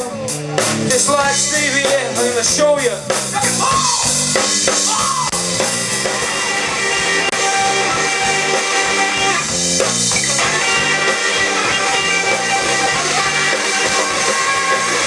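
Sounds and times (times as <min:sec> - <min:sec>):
bass line: 0:00.0 - 0:15.0
electric guitar: 0:00.0 - 0:15.0
live rock band playing: 0:00.0 - 0:15.0.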